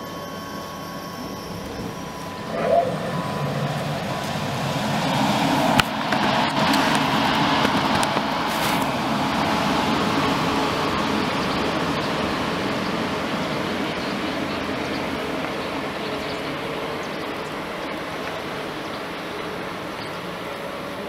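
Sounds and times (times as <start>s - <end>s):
electric train pulling away: 0.0s - 21.0s.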